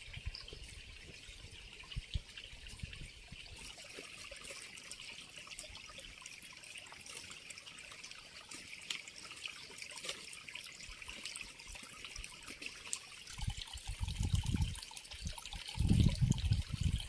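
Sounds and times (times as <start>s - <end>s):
crackles and splashes: 0.0s - 17.0s
water trickling: 0.0s - 17.0s.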